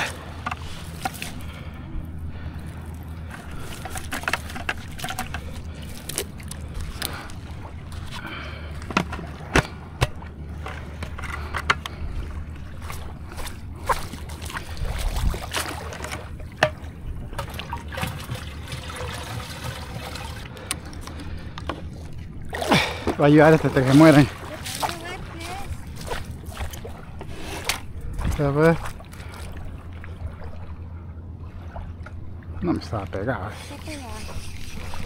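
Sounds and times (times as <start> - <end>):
water sloshing around wading person: 0.0 - 35.0.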